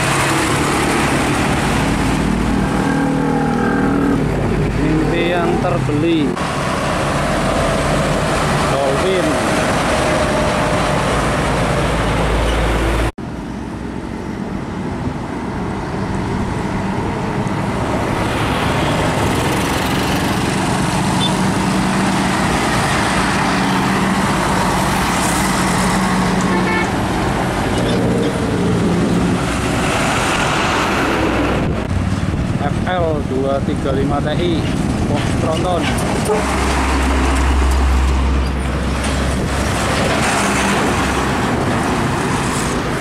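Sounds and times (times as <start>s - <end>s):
heavy trucks passing: 0.0s - 43.0s.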